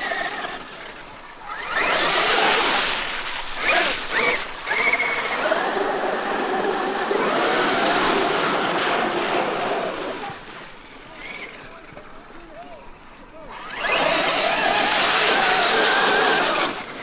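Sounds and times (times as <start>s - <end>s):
electric motor whining: 0.0s - 10.5s, 13.5s - 17.0s.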